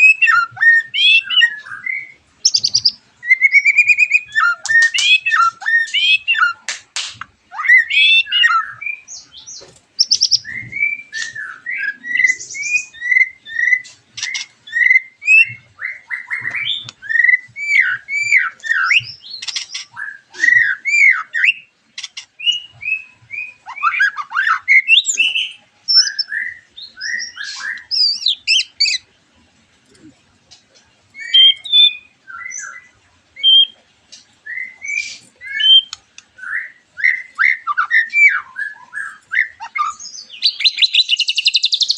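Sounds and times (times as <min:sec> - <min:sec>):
birds singing whistled notes: 0:00.0 - 0:06.7, 0:07.4 - 0:29.1, 0:31.1 - 0:41.9
birds harsh chatters: 0:00.0 - 0:41.9.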